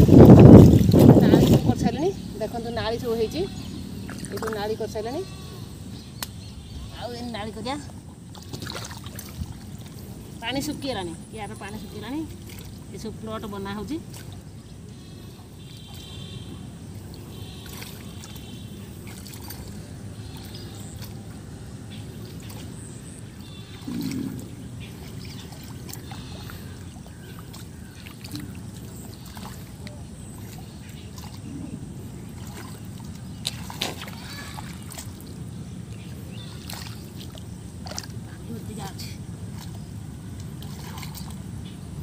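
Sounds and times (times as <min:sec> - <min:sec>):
hands sloshing in muddy water: 0:00.0 - 0:01.9, 0:07.8 - 0:10.4, 0:11.5 - 0:13.2, 0:13.8 - 0:42.0.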